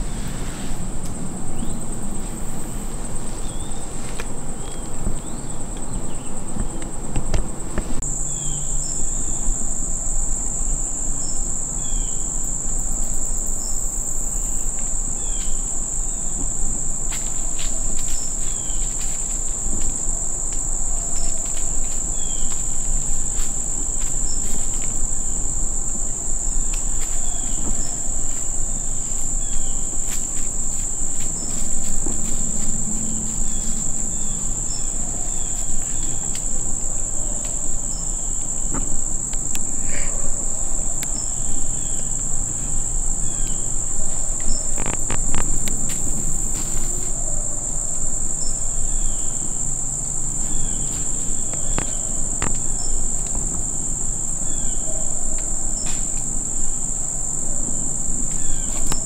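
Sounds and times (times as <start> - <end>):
crickets and insects droning: 0.0 - 59.0.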